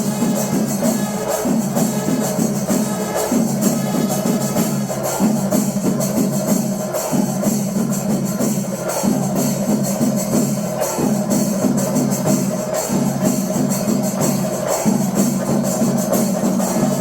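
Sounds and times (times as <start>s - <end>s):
drums beaten fast: 0.0s - 17.0s.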